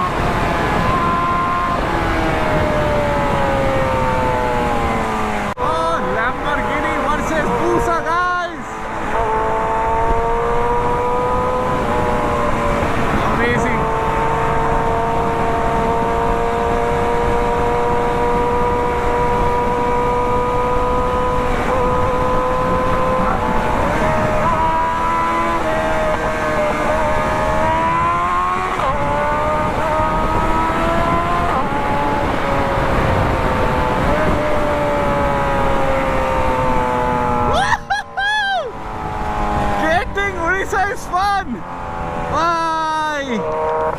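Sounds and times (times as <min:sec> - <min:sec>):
engines running at speed: 0:00.0 - 0:43.9.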